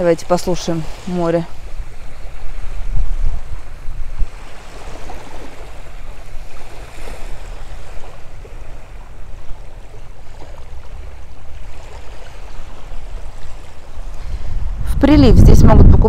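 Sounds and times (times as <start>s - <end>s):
waves lapping on a beach: 0.0s - 16.0s.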